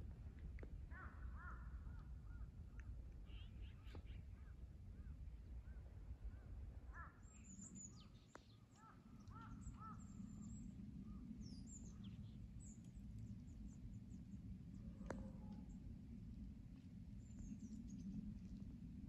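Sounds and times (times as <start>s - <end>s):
low steady background rumble: 0.0s - 19.0s
birds calling faintly: 0.6s - 16.0s.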